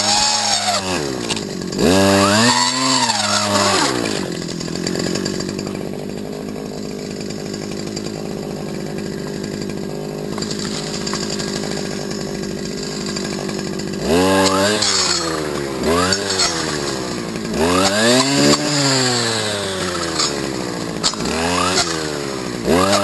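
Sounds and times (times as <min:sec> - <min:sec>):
brushcutter engine revving and idling: 0:00.0 - 0:23.0.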